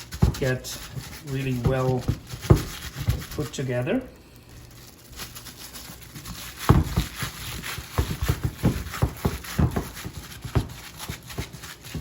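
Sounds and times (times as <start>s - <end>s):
hand mixing filling in bowl: 0.0s - 12.0s.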